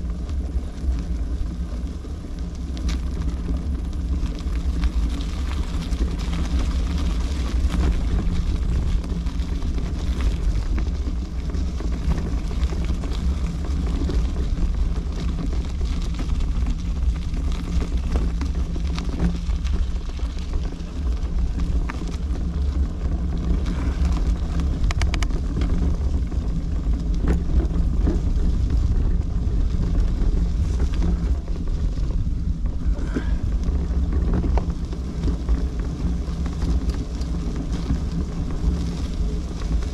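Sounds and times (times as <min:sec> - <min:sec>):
low hum: 0:00.0 - 0:39.9
rolling noise: 0:00.0 - 0:39.9
wind buffeting microphone: 0:00.0 - 0:39.9.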